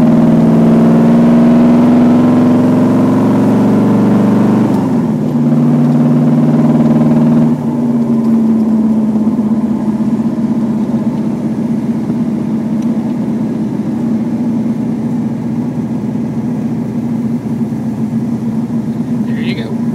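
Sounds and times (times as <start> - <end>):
car engine cruising: 0.0 - 19.9.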